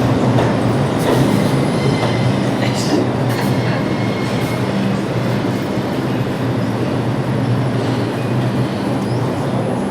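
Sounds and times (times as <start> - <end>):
subway train wheels on rails: 0.0 - 9.9.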